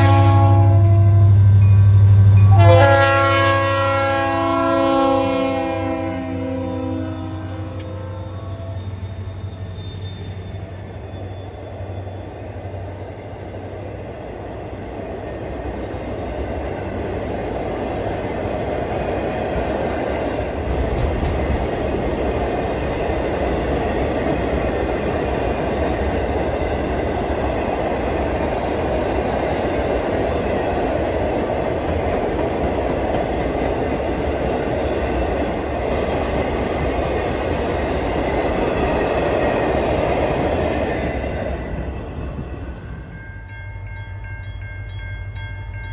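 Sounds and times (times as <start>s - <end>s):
train rumbling past: 0.0s - 45.9s.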